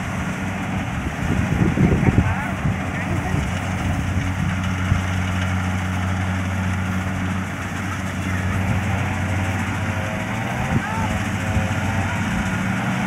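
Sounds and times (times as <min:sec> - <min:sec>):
diesel engine low drone: 0:00.0 - 0:13.0.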